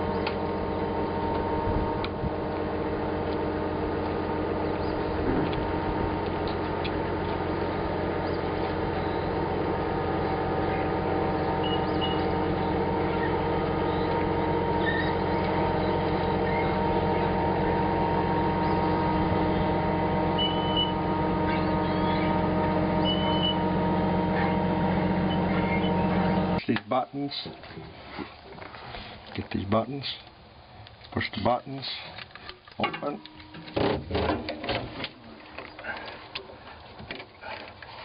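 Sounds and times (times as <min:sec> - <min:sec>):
boat motor droning: 0:00.0 - 0:26.6, 0:32.9 - 0:38.0.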